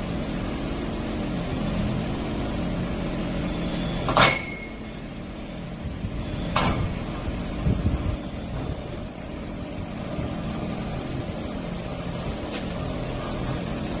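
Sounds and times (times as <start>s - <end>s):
hydraulic engine drone: 0.0s - 14.0s.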